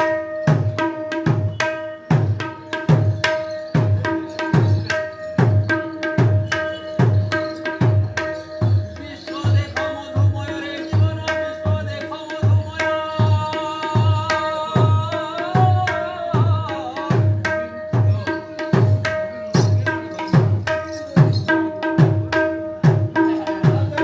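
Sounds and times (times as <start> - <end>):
barrel drum playing: 0.0 - 24.0.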